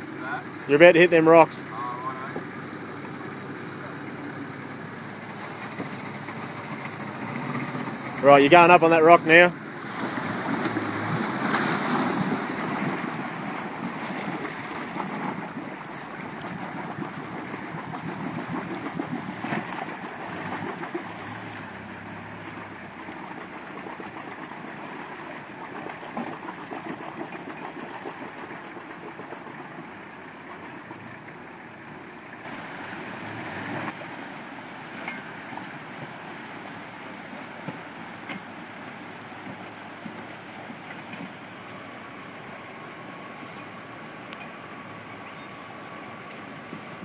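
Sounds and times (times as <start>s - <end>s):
faint diesel engine: 0.0s - 47.0s
water splashing around tyres: 0.0s - 47.0s.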